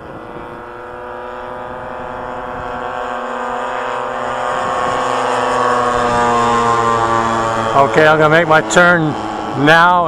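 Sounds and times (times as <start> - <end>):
model airplane engines droning: 0.0 - 10.0.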